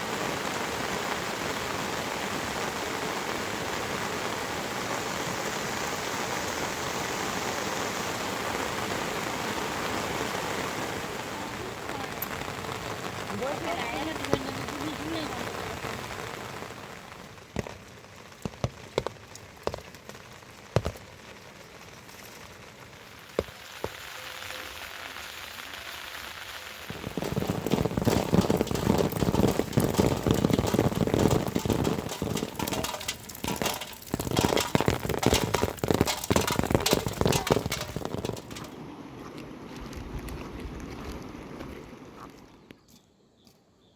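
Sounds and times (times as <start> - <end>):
rain falling: 0.0 - 42.6
raindrops pattering on a surface: 0.0 - 42.7.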